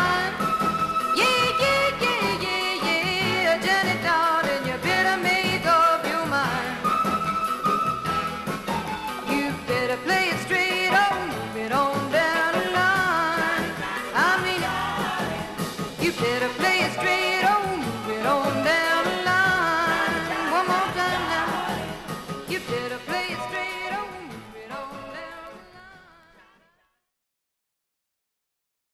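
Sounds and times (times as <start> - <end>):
person singing: 0.0 - 7.4, 8.7 - 26.6
band with steady beat: 0.0 - 25.6.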